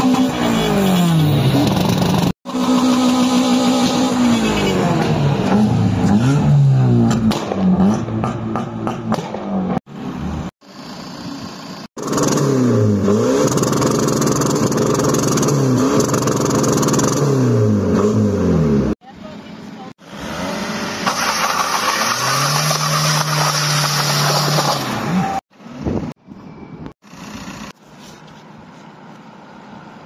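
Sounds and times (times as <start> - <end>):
car engines revving: 0.0 - 19.0, 19.9 - 25.9.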